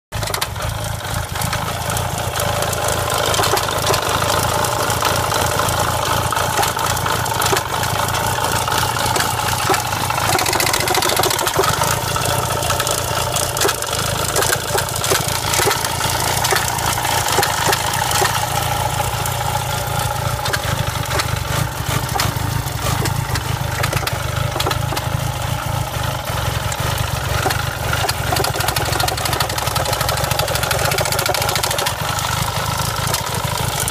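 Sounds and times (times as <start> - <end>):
car engine idling: 0.1 - 33.9
engine clicks and knocks: 0.1 - 33.9.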